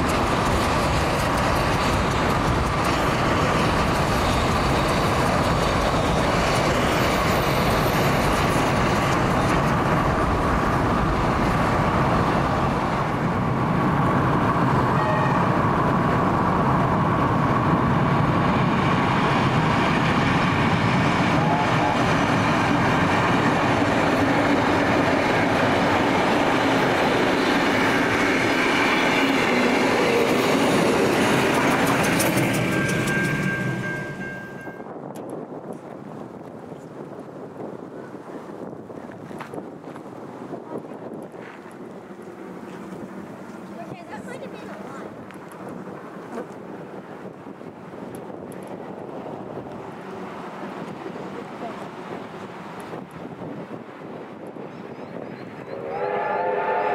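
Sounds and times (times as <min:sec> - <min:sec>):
train clickety-clack: 0:00.0 - 0:55.6
train wheels rumbling on rails: 0:00.0 - 0:56.9.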